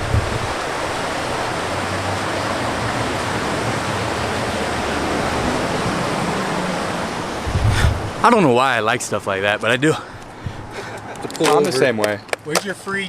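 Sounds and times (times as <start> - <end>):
fast-running water: 0.0 - 11.0.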